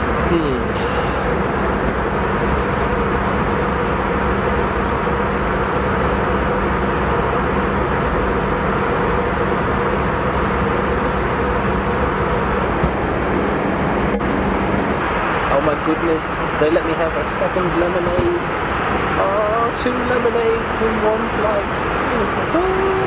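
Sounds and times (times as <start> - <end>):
airliner cabin rushing noise: 0.0 - 20.8
low even hum: 0.0 - 23.0.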